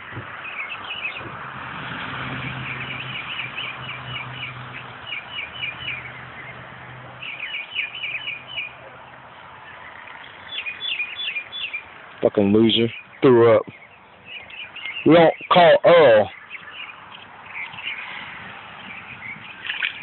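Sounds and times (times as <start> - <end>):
small birds chirping: 0.0 - 1.3, 2.4 - 20.0.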